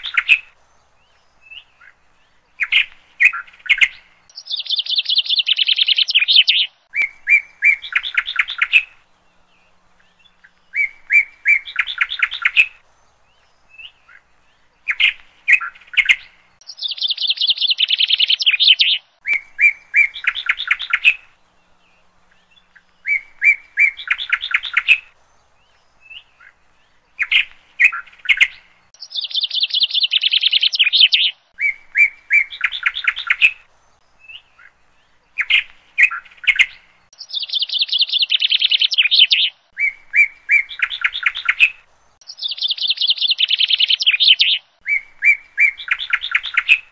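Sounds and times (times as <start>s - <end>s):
songbird trilling and chirping: 0.0s - 46.9s.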